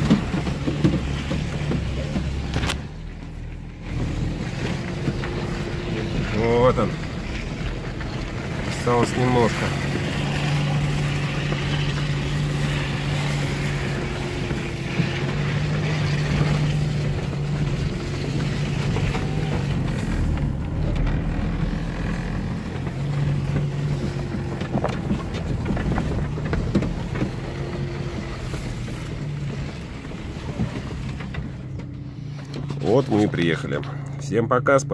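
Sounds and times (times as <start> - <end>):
car engine running: 0.0 - 34.9
tyres rolling over snowy track: 0.0 - 34.9.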